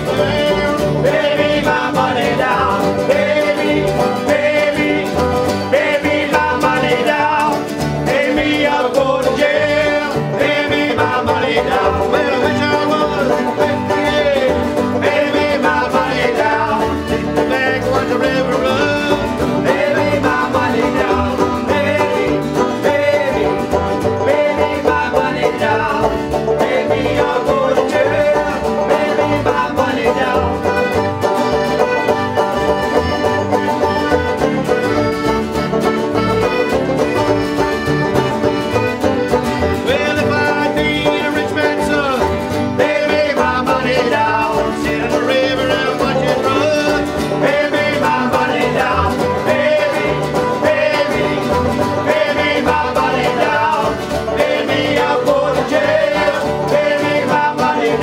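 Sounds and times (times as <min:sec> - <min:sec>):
folk band playing plucked strings: 0:00.0 - 0:58.0.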